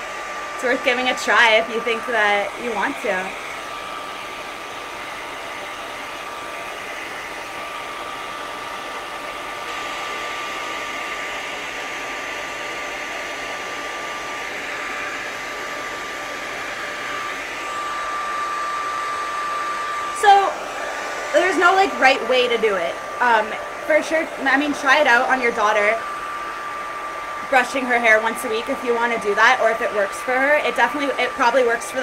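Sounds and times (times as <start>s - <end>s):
hair dryer blowing air: 0.0s - 32.0s.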